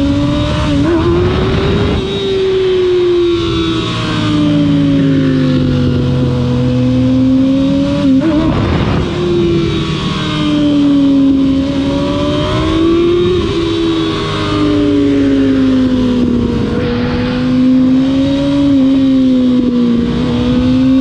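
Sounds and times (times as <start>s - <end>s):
wind noise: 0.0s - 4.7s, 5.6s - 21.0s
motorcycle engine revving: 0.0s - 21.0s.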